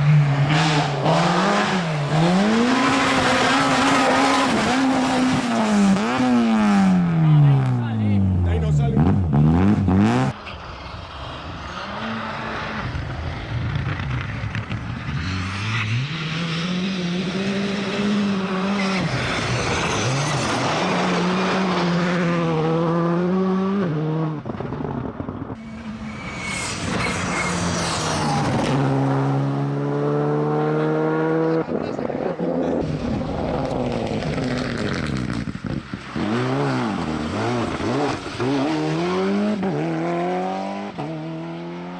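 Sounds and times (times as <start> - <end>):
rally car engines revving: 0.0 - 41.9
tyre and road noise: 0.0 - 41.9.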